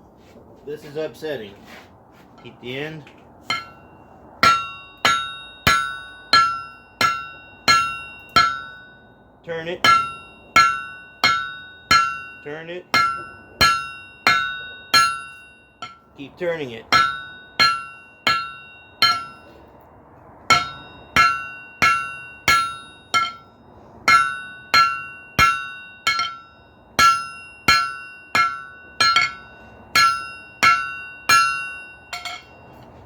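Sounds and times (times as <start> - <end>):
hammer striking hot steel: 3.5 - 9.2, 9.8 - 16.1, 16.9 - 19.6, 20.5 - 32.9.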